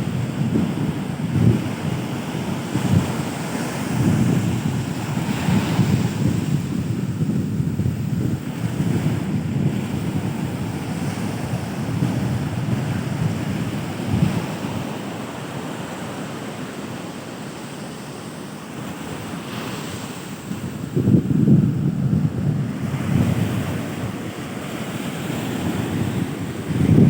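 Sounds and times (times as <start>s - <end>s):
wind buffeting microphone: 0.0s - 16.2s, 18.8s - 27.0s
surf on the shore: 0.0s - 27.0s.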